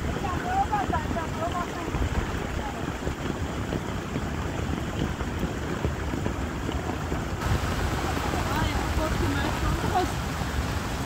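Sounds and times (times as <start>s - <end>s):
heavy rain on plastic tarp: 0.0s - 11.0s
wind buffeting microphone: 0.0s - 11.0s.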